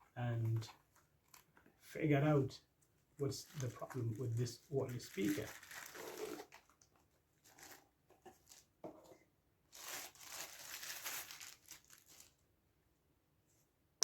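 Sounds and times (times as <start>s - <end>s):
crinkling and rustling: 0.0s - 1.8s, 2.8s - 12.4s.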